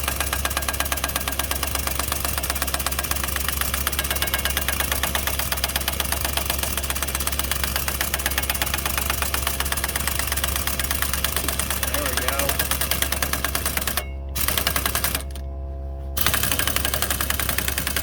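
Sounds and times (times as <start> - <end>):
impact wrench hammering: 0.0 - 15.4.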